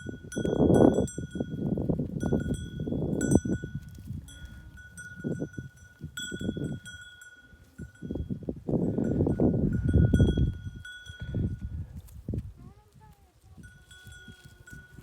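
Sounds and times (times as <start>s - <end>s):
livestock bells clinking: 0.0s - 11.8s, 13.5s - 15.0s.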